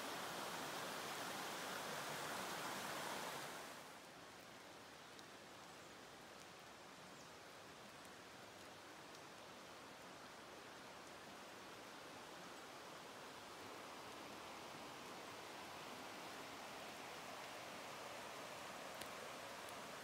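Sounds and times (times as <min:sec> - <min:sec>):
soft flow of calm water: 0:00.0 - 0:20.0.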